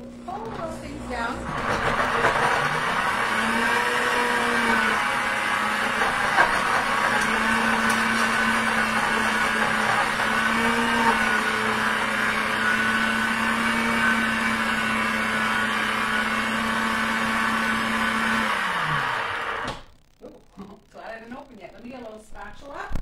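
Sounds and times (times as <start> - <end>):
blender motor whir: 1.1 - 19.8.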